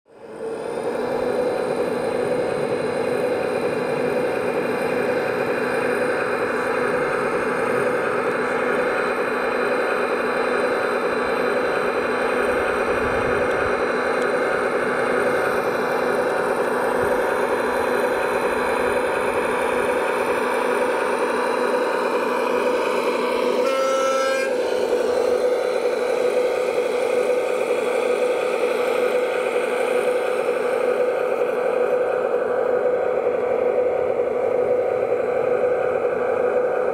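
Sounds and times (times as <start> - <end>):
model truck engine running: 0.1 - 36.9
steady whine: 0.1 - 36.9.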